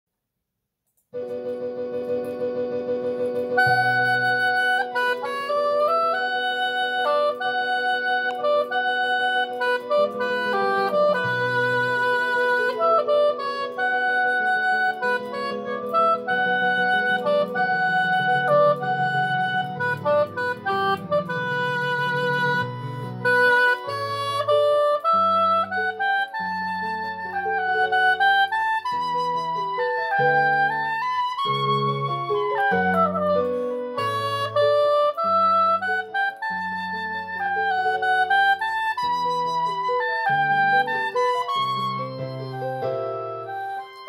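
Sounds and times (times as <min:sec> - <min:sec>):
lower accompaniment: 0:01.2 - 0:44.0
oboe playing slow melody: 0:01.2 - 0:44.0.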